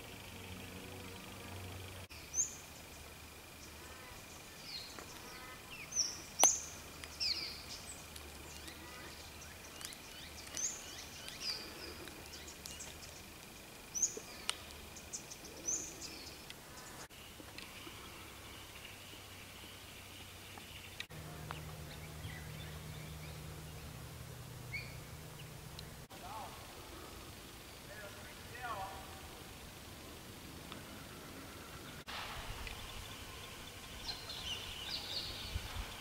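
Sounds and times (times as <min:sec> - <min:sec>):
wild birds chirping: 0:00.0 - 0:36.0.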